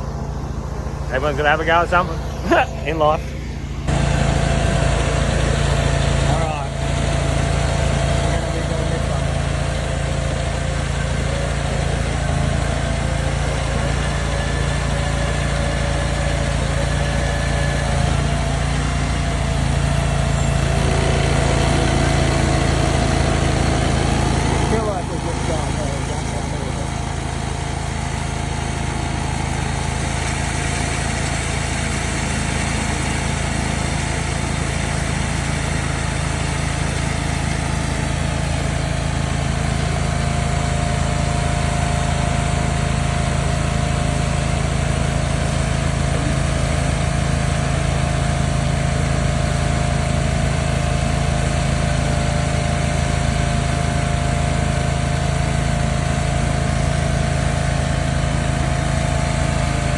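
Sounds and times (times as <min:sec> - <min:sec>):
small engine humming: 0:00.0 - 0:59.9.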